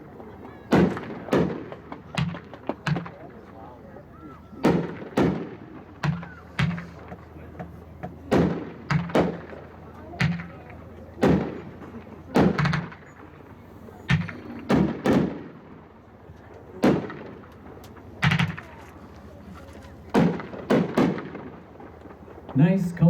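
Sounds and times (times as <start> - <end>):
fireworks booms with echo: 0.7 - 3.5, 4.6 - 15.9, 16.7 - 18.8, 20.1 - 22.5.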